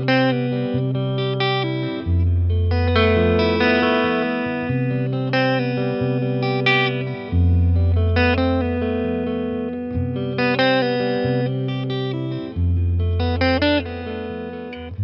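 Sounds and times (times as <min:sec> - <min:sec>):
electric guitar plucked: 0:00.0 - 0:15.0.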